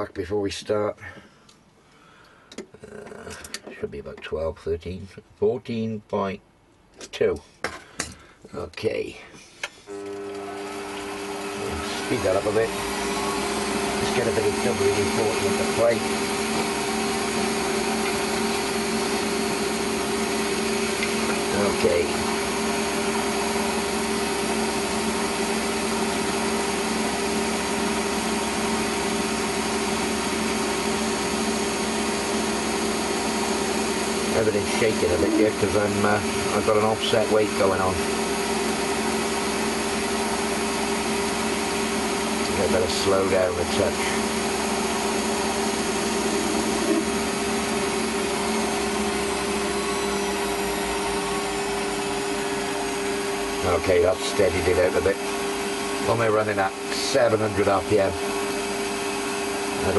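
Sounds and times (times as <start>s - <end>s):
lathe whine: 9.9s - 59.9s
metal lathe running: 9.9s - 59.9s
lathe tool cutting metal: 10.0s - 59.9s.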